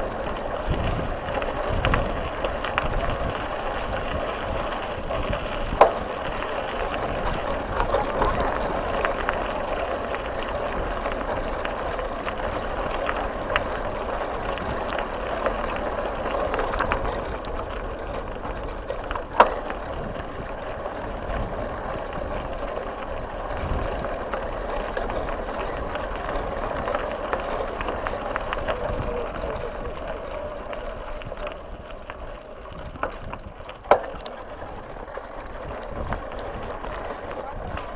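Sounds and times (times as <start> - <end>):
tyres rolling over gravel: 0.0 - 37.9.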